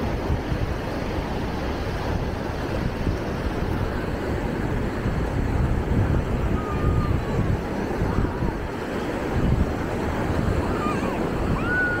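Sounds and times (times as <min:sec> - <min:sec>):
surf rushing on beach: 0:00.0 - 0:12.0
wind buffeting microphone: 0:00.0 - 0:12.0.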